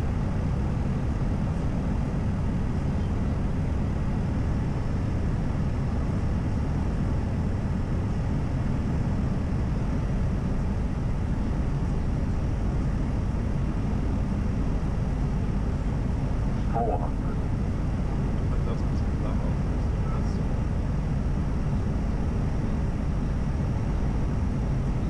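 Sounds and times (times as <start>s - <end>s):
airplane rumble in flight: 0.0s - 25.0s.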